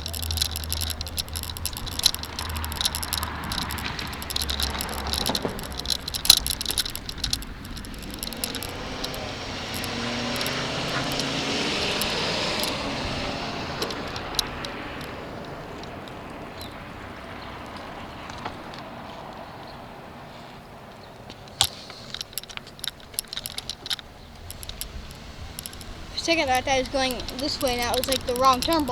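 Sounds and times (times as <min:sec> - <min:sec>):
sharp rattling clicks: 0:00.0 - 0:17.0, 0:21.5 - 0:28.9
vehicle passing by: 0:00.0 - 0:21.3, 0:24.2 - 0:28.9.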